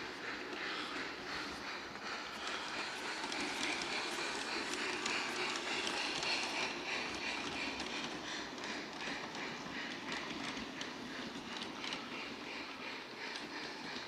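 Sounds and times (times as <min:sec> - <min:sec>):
wheels clicking on rails: 0:00.0 - 0:14.0.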